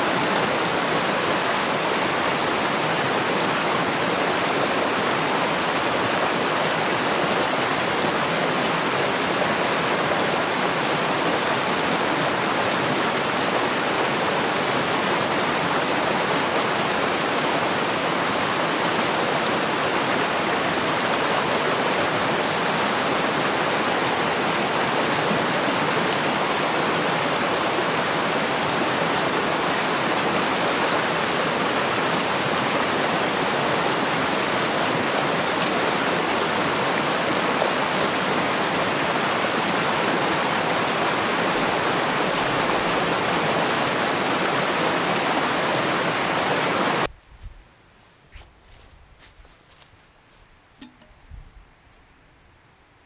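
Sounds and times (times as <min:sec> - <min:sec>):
stream rushing over rocks: 0:00.0 - 0:47.1.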